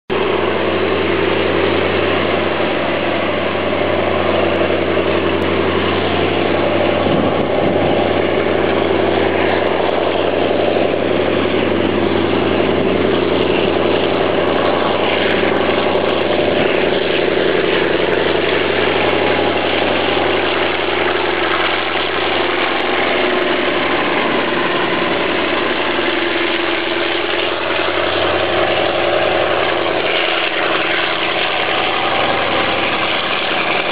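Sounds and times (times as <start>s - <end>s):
diesel locomotive engine running: 0.1s - 33.9s.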